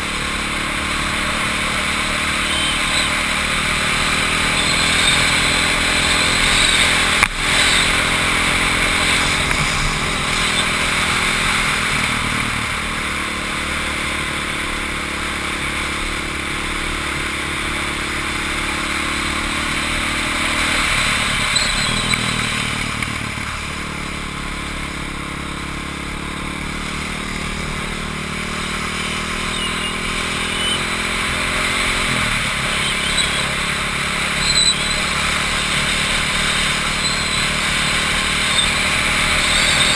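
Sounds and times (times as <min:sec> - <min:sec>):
vehicle engine running hard: 0:00.0 - 0:39.9
wind and road noise: 0:00.0 - 0:39.9.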